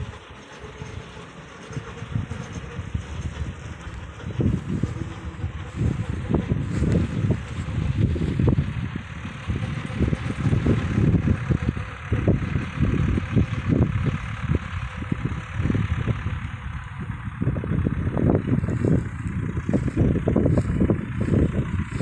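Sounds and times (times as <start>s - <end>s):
distant tractor diesel engine: 0.0s - 22.0s
wind buffeting microphone: 0.0s - 22.0s.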